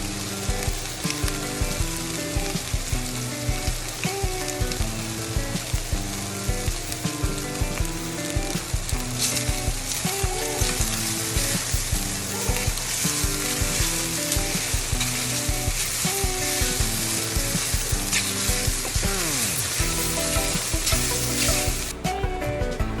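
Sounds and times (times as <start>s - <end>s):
chicken sizzling in a pan: 0.0s - 21.9s
utensil clicking against pan: 0.0s - 21.9s
background music: 0.0s - 23.0s.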